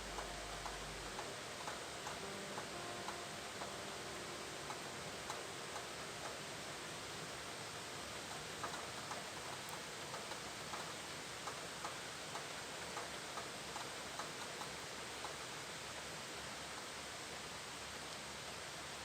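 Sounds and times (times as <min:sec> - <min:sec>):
rain hissing: 0:00.0 - 0:19.0.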